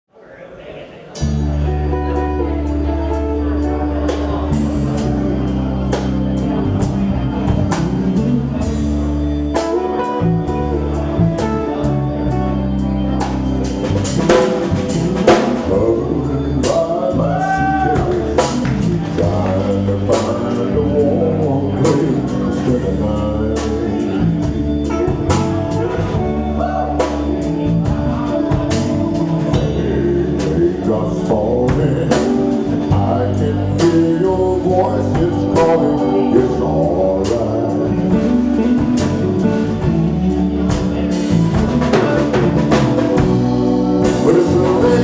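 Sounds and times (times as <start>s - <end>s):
bass notes: 1.0s - 45.0s
drum kit: 1.2s - 45.0s
lead instrument with bent notes: 1.2s - 45.0s.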